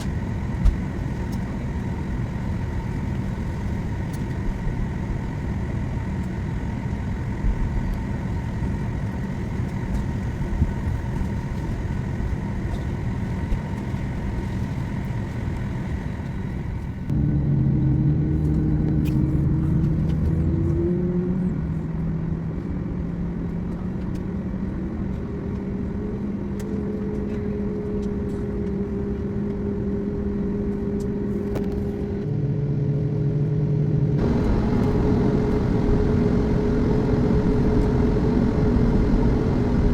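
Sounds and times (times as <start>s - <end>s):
aircraft cabin engine hum: 0.0s - 39.9s
jet engines throttling up: 0.0s - 39.9s.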